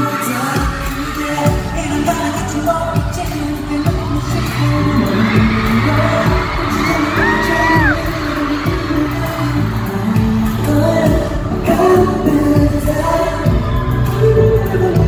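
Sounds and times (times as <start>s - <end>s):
pop song singing over sound system: 0.0s - 15.0s
low thudding beat: 0.6s - 15.0s.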